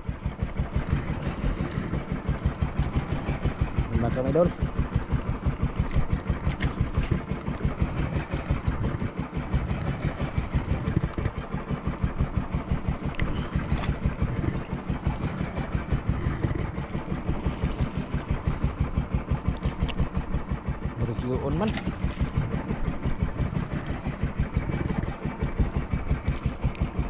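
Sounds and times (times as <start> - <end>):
boat engine puttering: 0.0 - 27.0.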